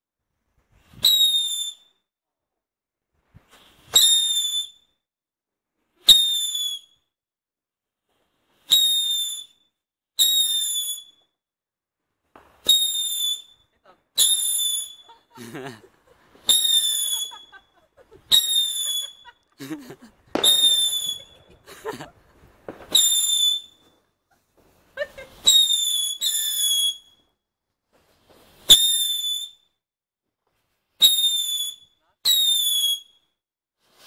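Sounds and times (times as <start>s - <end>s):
firework fountain whistling: 0.7s - 2.0s, 3.3s - 5.0s, 5.9s - 7.1s, 8.0s - 11.3s, 12.3s - 29.8s, 30.5s - 34.0s.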